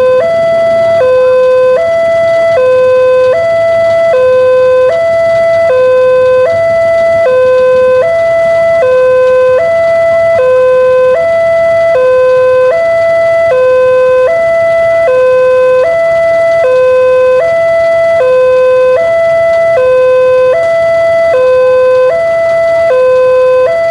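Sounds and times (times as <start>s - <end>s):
two-tone crossing warning alarm: 0.0s - 23.9s.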